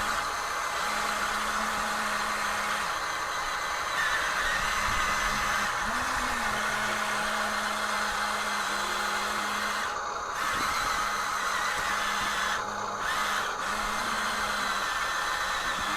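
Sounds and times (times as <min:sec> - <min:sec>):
small electric motors whirring: 0:00.0 - 0:15.9.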